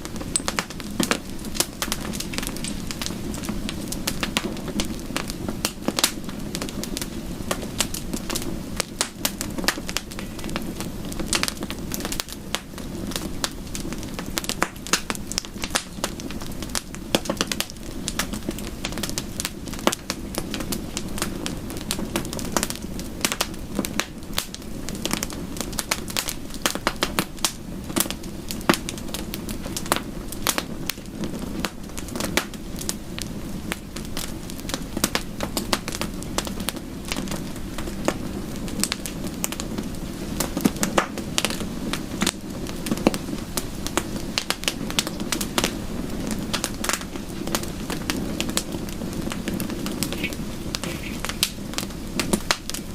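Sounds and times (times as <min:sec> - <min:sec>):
sharp pops of fire: 0:00.0 - 0:52.9
wood fire crackling: 0:00.0 - 0:52.9.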